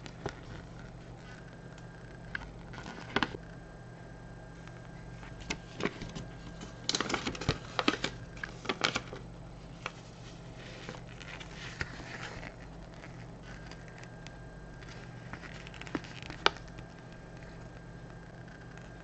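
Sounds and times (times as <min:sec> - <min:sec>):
pages rustling: 0:00.0 - 0:01.6, 0:02.2 - 0:03.4, 0:04.6 - 0:19.0
stiff paper crackling: 0:00.0 - 0:03.4, 0:04.6 - 0:19.0.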